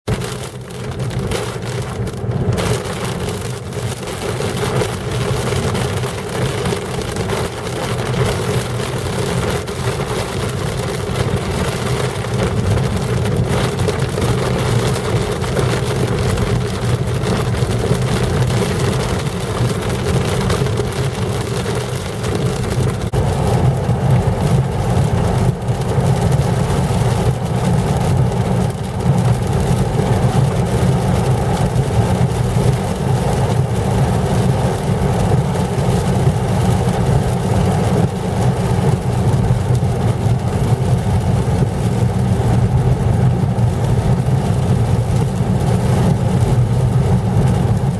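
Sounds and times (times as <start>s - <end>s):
rain: 0.1s - 47.9s
wind: 0.1s - 47.9s.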